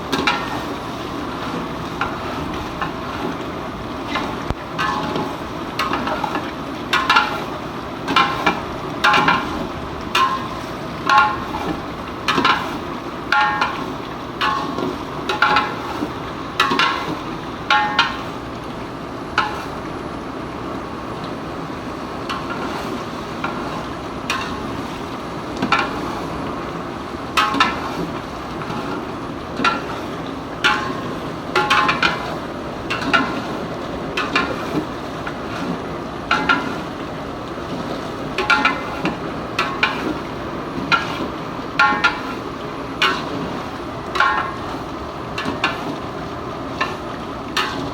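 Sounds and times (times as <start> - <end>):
food sizzling: 0.0 - 20.1, 21.1 - 47.9.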